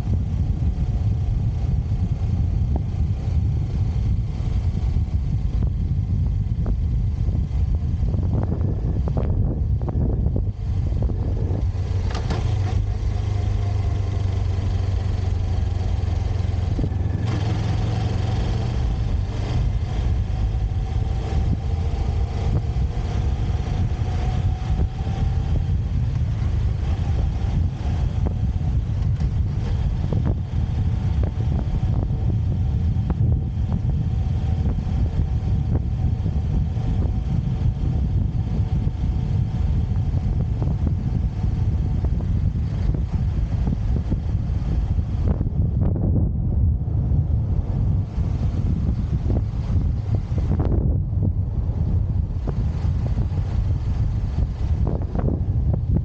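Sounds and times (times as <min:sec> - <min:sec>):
motorcycle engine and road noise: 0:00.0 - 0:56.0.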